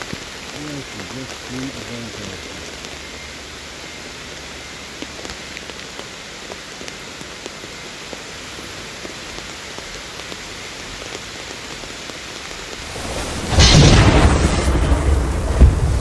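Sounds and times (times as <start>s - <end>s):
raindrops ticking on a surface: 0.0s - 13.3s
steady rain falling: 0.0s - 16.0s.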